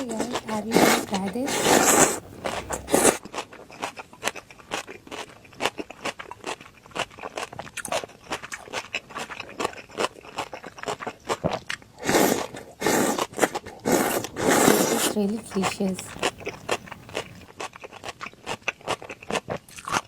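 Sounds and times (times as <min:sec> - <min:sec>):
chewing crisp food: 0:00.0 - 0:20.0.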